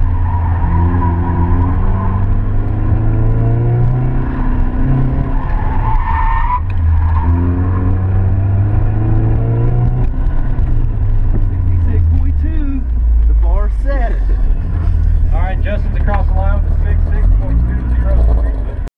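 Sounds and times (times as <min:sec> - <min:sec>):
car engine under load: 0:00.0 - 0:18.9.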